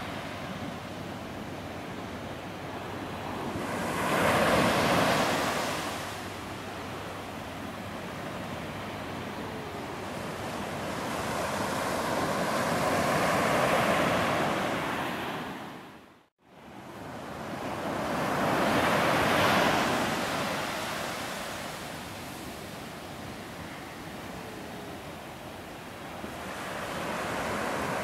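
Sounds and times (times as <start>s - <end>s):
surf washing on a beach: 0.0s - 28.0s.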